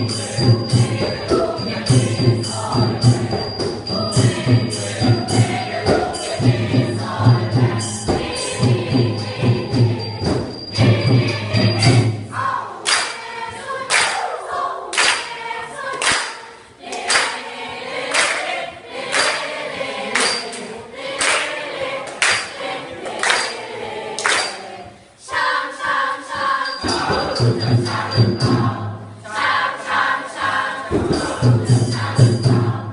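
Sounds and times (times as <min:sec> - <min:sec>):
sharp percussive beat: 0:00.0 - 0:14.3, 0:15.0 - 0:29.2, 0:30.4 - 0:32.9
group singing in harmony: 0:00.0 - 0:32.9.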